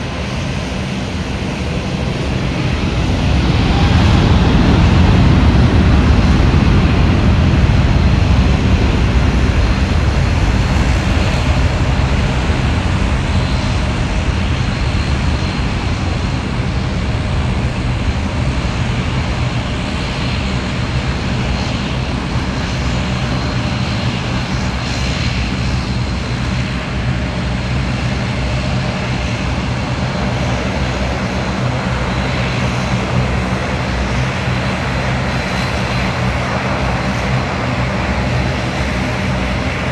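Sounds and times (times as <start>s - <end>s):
high engine whine: 0.0s - 39.9s
jet engines rumbling: 0.0s - 39.9s.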